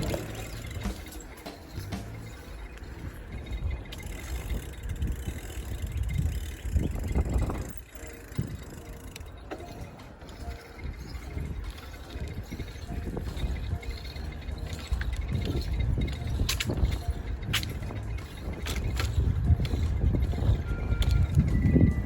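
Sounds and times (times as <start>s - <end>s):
bicycle clicks: 0.0s - 22.0s
bicycle tyre noise: 0.0s - 22.0s
wind rumbling on microphone: 0.0s - 22.0s.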